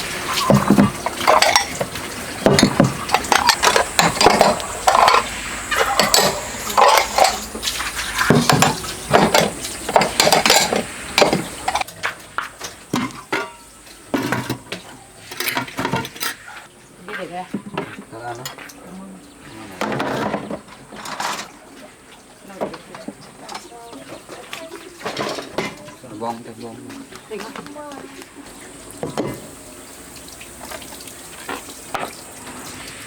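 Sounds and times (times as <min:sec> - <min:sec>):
dishes and utensils clattering: 0:00.0 - 0:28.2, 0:29.0 - 0:29.6.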